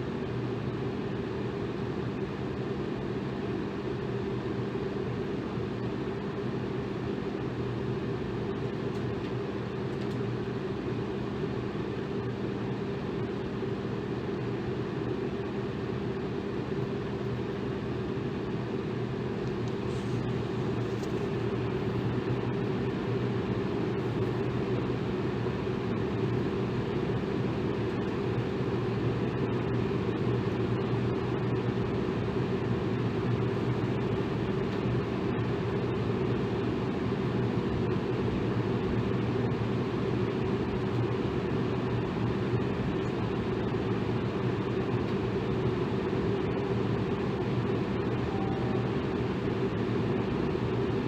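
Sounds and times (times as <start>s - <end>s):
electric fan air rush: 0.0s - 51.0s.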